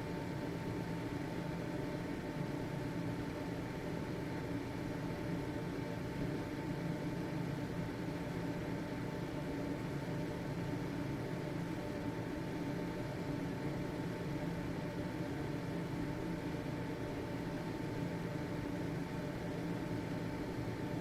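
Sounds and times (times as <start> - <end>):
ventilation fan whirring: 0.0 - 21.0.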